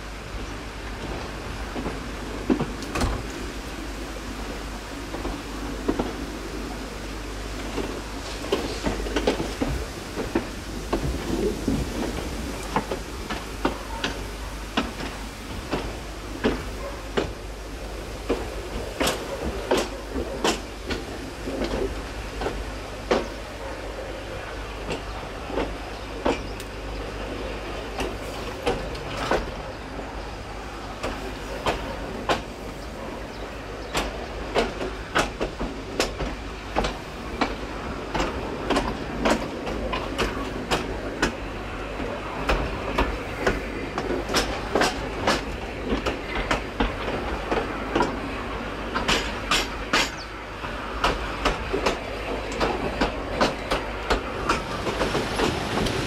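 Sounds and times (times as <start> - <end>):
train wheels clicking over rail joints: 0.1 - 56.0.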